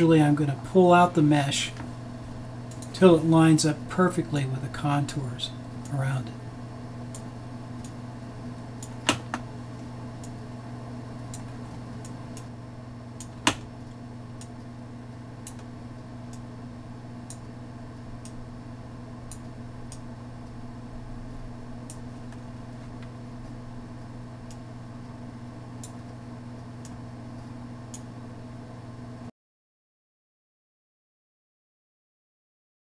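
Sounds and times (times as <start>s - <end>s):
steady low hum: 0.0s - 29.3s.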